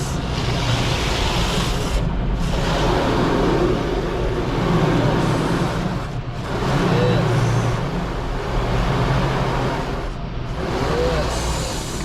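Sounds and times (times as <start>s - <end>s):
high-pressure water spraying on car: 0.0s - 12.0s.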